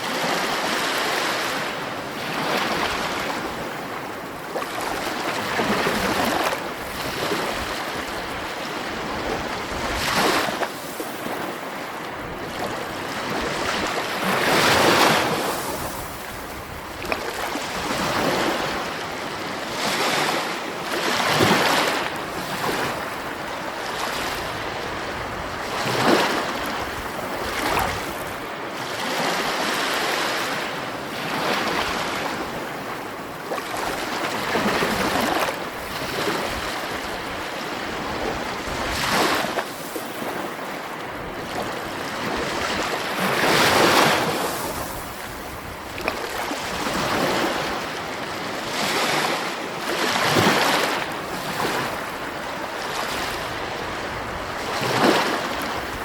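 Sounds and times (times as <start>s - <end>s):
sea waves breaking: 0.0s - 56.0s
wash of surf: 0.0s - 56.0s.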